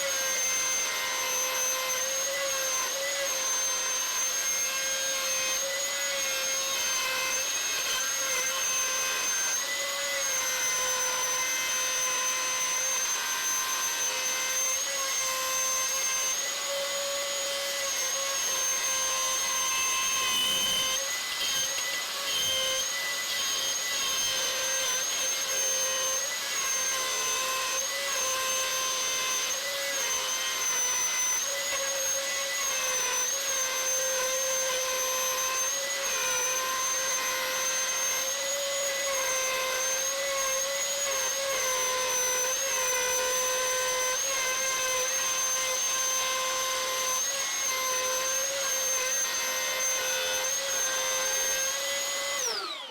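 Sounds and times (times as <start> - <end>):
router motor whine cutting wood: 0.0 - 52.9.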